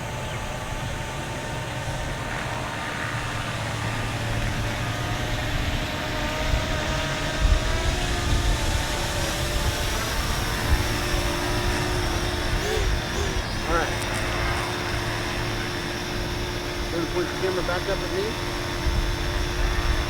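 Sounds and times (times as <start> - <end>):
drone propellers whining: 0.0 - 20.0
wind buffeting microphone: 0.0 - 20.0.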